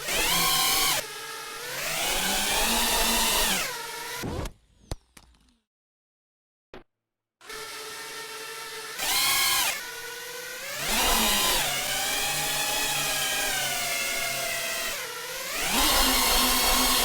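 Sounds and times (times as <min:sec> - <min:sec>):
quadcopter motors whining: 0:00.0 - 0:04.6, 0:07.4 - 0:17.0.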